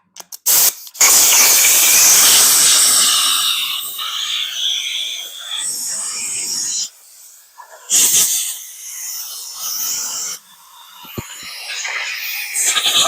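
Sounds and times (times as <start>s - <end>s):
electric arc welding crackling: 0.5s - 13.0s.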